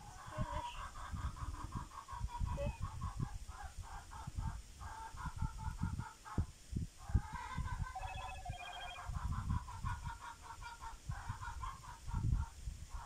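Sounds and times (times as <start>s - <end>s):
chickens clucking: 0.0s - 6.4s, 7.0s - 13.0s.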